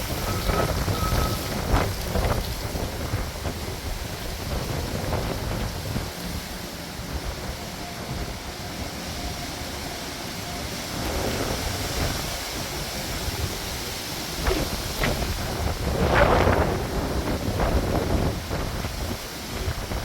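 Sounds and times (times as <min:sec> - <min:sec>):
wind gusting against microphone: 0:00.0 - 0:20.0.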